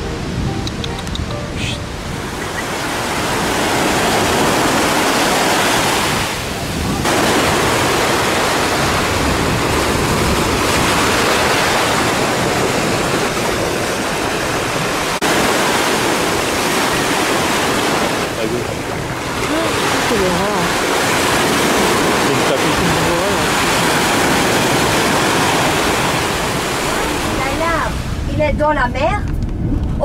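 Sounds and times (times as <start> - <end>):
small waves breaking on sand: 1.8 - 28.2.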